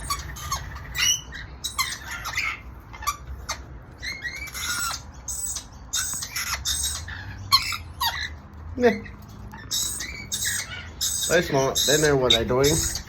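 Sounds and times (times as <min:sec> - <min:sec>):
parrots squawking and chirping: 0:00.0 - 0:13.0.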